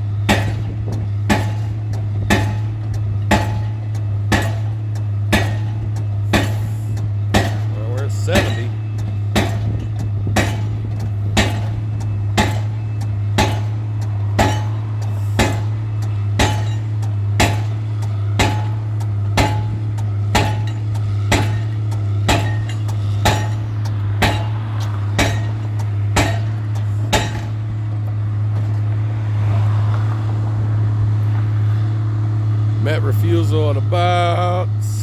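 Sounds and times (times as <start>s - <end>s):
low engine drone: 0.0s - 35.0s
pile-driving hammer striking: 0.2s - 29.0s.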